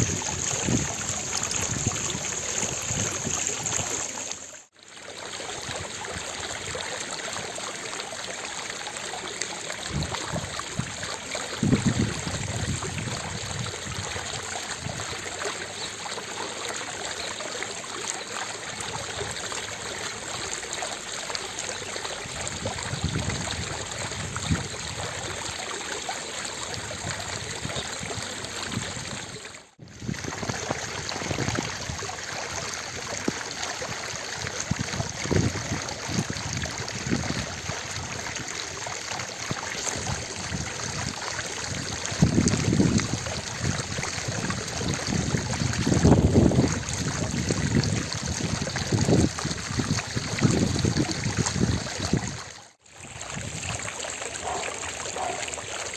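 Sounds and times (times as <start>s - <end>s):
water fountain splashing: 0.0s - 55.9s.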